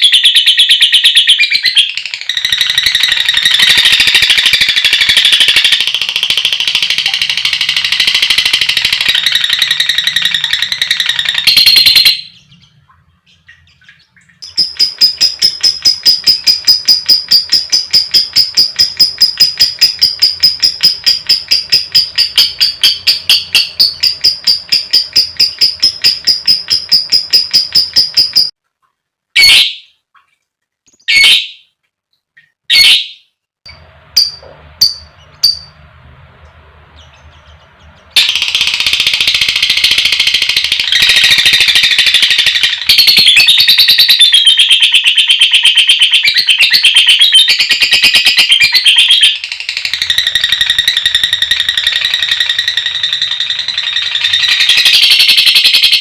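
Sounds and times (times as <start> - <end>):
lovebird chirping and trilling: 0.0 - 28.6, 29.4 - 30.0, 30.9 - 31.8, 32.4 - 35.8, 36.9 - 56.0.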